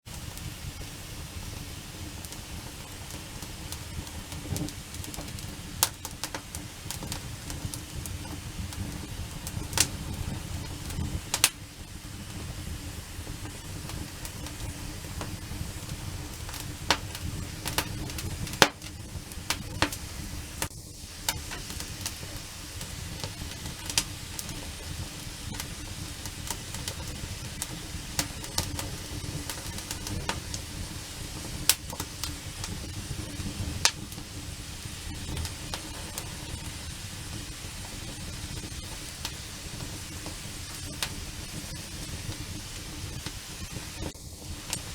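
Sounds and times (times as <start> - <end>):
campfire crackling: 0.1 - 44.9
sharp pops from burning wood: 0.1 - 44.9.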